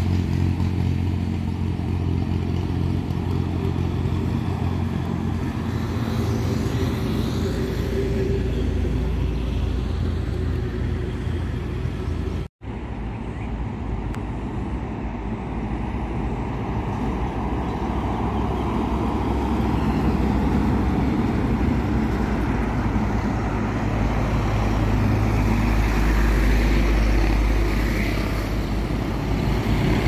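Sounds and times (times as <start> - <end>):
heavy trucks driving past: 0.0 - 30.0
tyre and road noise: 0.0 - 30.0.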